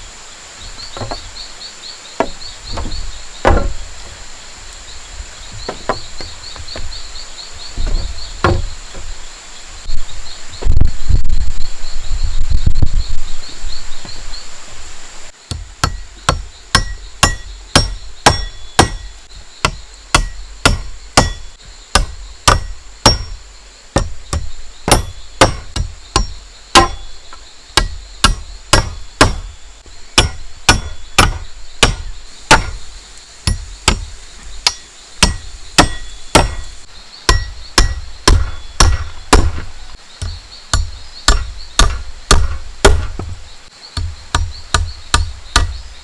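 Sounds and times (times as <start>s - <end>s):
insect trilling: 0.0s - 46.0s.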